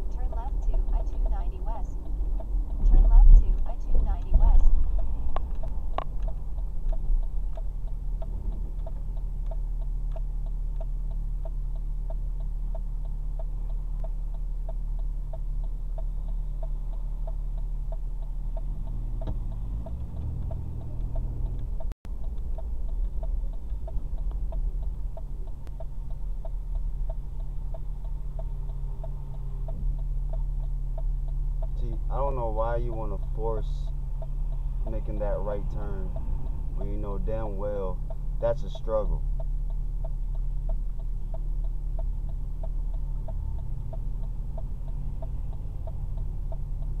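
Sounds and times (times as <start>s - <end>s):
idling engine rumble: 0.0s - 47.0s
turn signal ticking: 0.0s - 47.0s.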